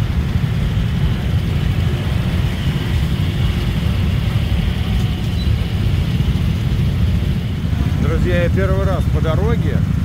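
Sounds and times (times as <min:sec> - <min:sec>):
motorbike and car engines idling: 0:00.0 - 0:10.0.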